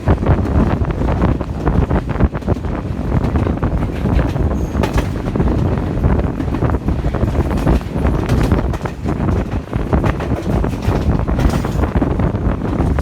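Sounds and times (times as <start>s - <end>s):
train rumbling: 0.0s - 13.0s
wind buffeting microphone: 0.0s - 13.0s.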